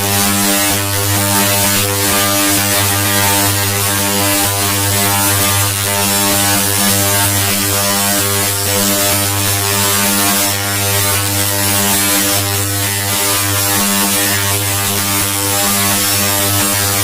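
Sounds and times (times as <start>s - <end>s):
distorted electronic buzzing drone: 0.0s - 17.0s.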